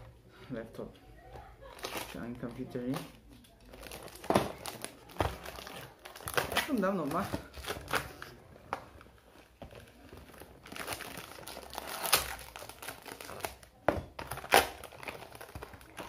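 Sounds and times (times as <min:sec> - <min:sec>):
plastic bag crinkling: 0:01.6 - 0:08.4, 0:09.0 - 0:16.0.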